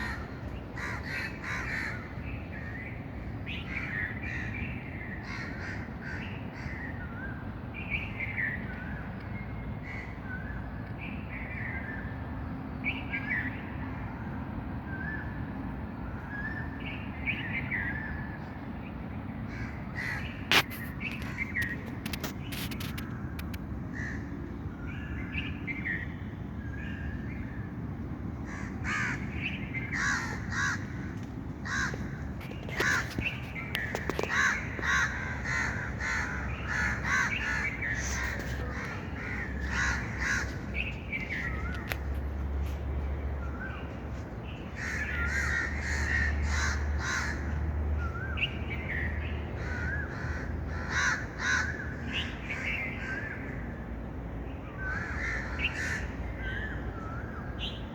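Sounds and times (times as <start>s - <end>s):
birds calling: 0.0s - 12.0s, 19.3s - 53.8s, 54.6s - 57.9s.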